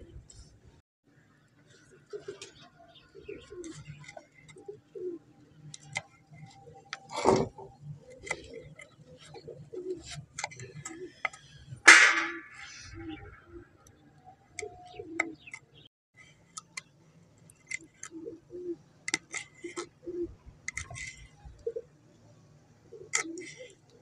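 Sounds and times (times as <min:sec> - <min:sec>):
doves cooing: 0:01.7 - 0:15.6, 0:17.8 - 0:22.1, 0:22.8 - 0:24.0.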